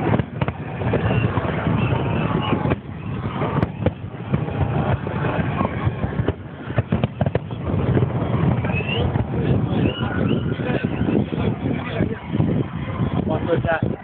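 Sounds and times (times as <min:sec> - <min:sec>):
fireworks bangs and cracks: 0:00.0 - 0:14.0
steady rumble: 0:00.0 - 0:14.0.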